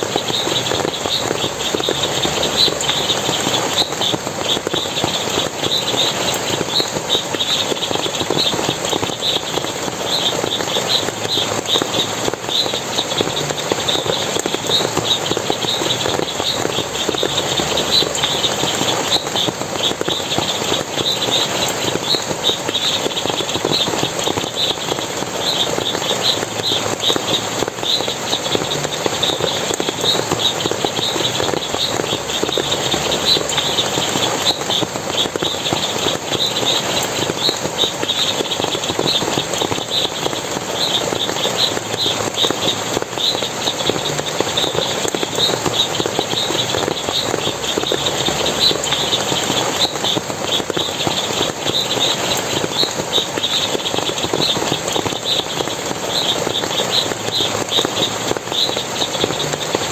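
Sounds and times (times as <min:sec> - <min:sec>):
high-pitched chirps: 0:00.0 - 0:59.9
water splashing and rushing: 0:00.0 - 0:59.9.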